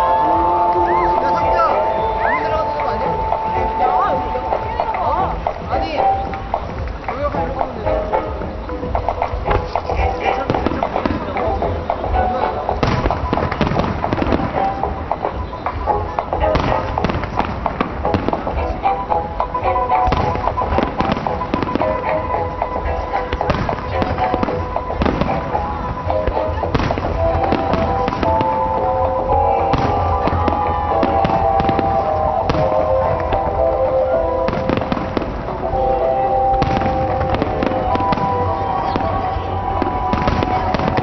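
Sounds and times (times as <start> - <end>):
fireworks bangs and crackles: 0.0 - 41.0
music: 0.0 - 41.0.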